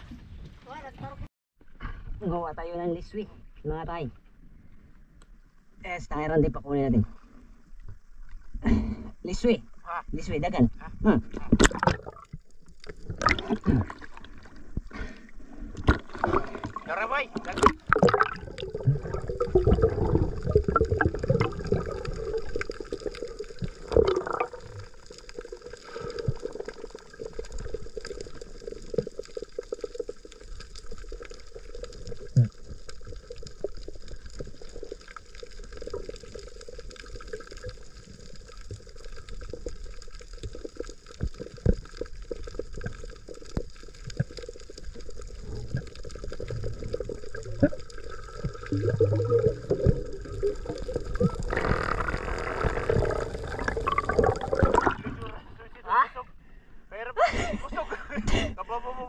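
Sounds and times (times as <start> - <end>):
sea water splashing: 9.4 - 56.7.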